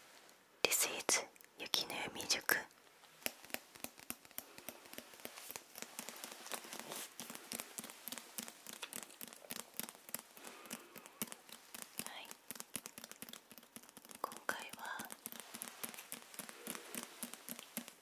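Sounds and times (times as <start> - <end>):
fingers tapping book cover: 3.1 - 18.0.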